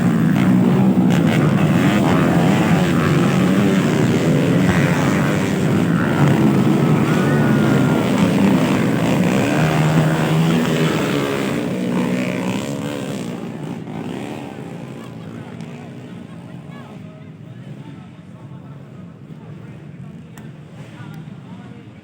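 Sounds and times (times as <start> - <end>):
dirt bike engines revving: 0.0 - 21.8.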